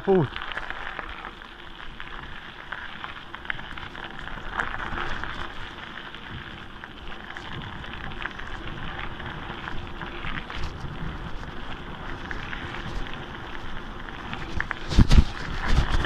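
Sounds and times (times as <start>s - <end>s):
bicycle tyres crunching gravel: 0.0s - 16.0s.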